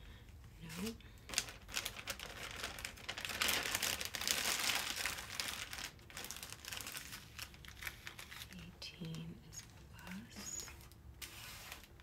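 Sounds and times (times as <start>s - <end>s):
plastic bag crinkling: 0.6s - 12.0s.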